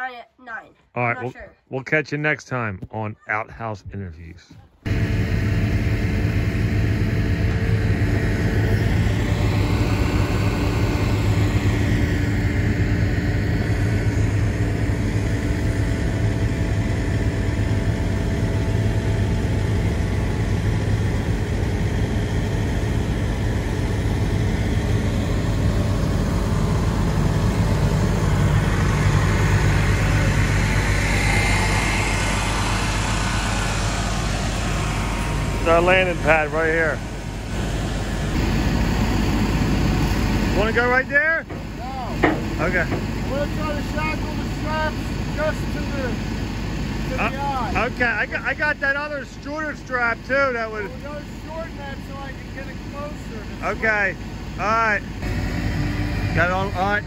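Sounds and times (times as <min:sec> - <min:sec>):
heavy equipment engine running: 0:04.8 - 0:57.0.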